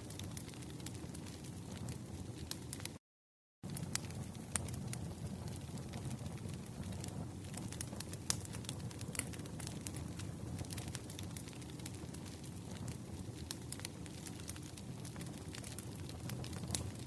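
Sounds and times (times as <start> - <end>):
fire crackling and popping: 0.0 - 3.0, 3.6 - 17.0.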